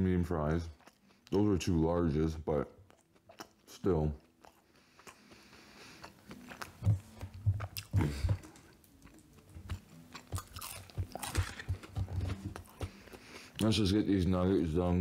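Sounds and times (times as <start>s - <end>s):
person chewing food: 0.4s - 13.8s.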